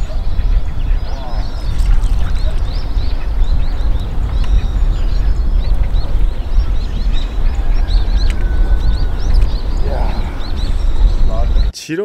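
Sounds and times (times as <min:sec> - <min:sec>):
loud steady low rumble: 0:00.0 - 0:11.7
small birds chirping: 0:00.0 - 0:11.7.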